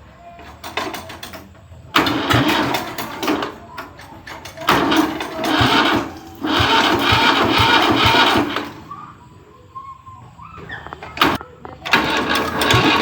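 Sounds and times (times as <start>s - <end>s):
tractor engine starting: 0.4s - 9.3s, 10.5s - 13.0s.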